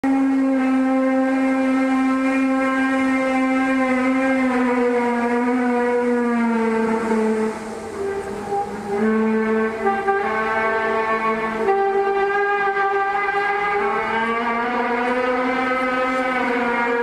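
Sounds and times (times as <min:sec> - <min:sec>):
trumpet-like groaning drone: 0:00.0 - 0:17.0.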